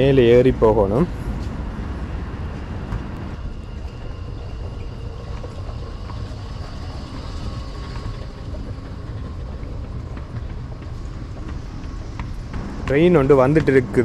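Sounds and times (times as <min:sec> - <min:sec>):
station ambience: 0:00.0 - 0:14.0
train rumble: 0:00.0 - 0:14.0.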